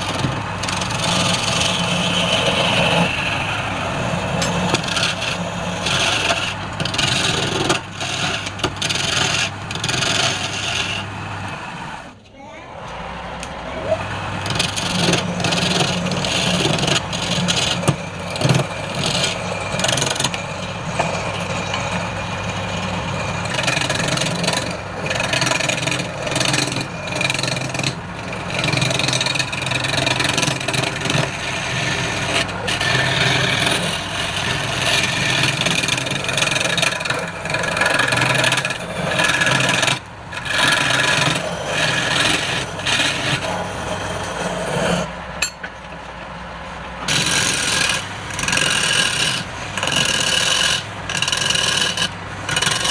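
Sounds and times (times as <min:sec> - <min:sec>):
turning tool scraping wood: 0:00.0 - 0:12.1, 0:14.0 - 0:45.1, 0:47.0 - 0:52.9
wood lathe motor hum: 0:00.0 - 0:12.2, 0:12.8 - 0:45.4, 0:47.0 - 0:52.9.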